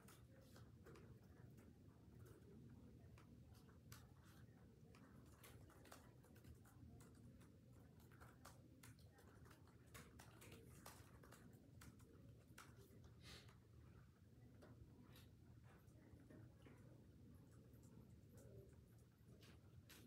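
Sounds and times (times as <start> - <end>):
faint irregular clicks and taps: 0.0 - 20.0.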